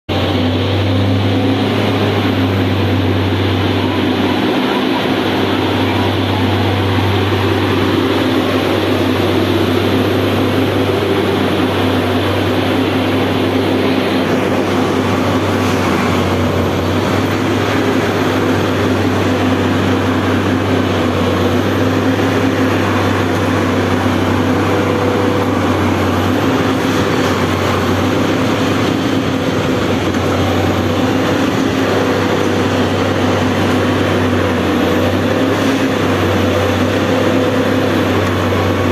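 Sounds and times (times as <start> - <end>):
track tamping machine running: 0.1 - 38.9.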